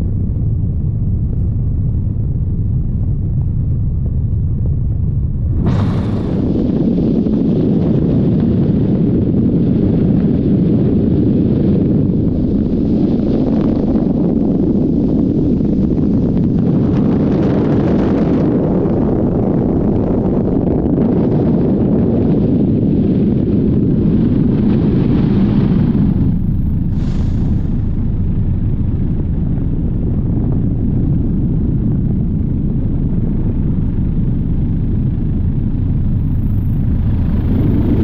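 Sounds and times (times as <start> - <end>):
faint whine: 0.0 - 38.0
helicopter cabin rumble: 0.0 - 38.0
wind on microphone: 0.0 - 38.0.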